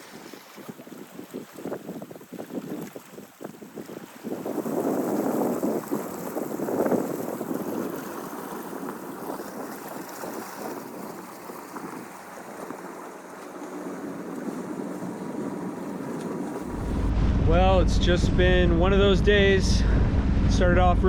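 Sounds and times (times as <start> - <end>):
water rushing along boat hull: 0.0 - 21.0
wind buffeting microphone: 0.0 - 21.0.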